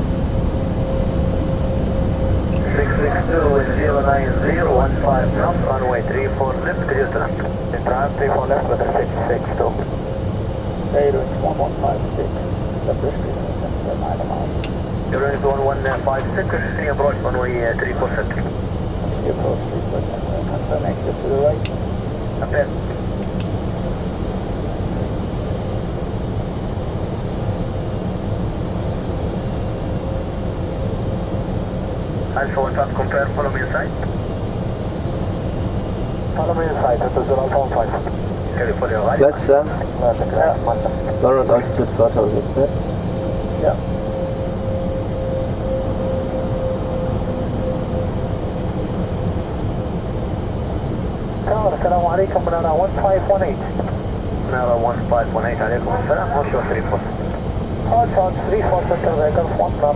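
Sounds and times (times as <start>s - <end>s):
cockpit rumble and hiss: 0.0s - 59.9s.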